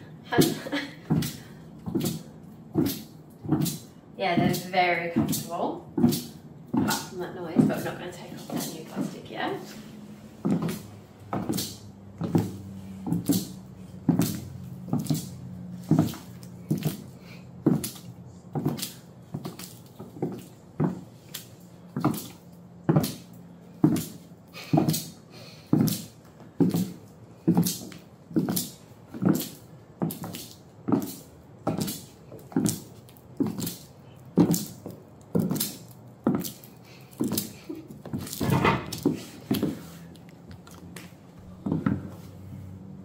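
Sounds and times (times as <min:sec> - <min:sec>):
high heel footsteps: 0:00.0 - 0:43.0
plastic on soles rustling: 0:00.4 - 0:42.4.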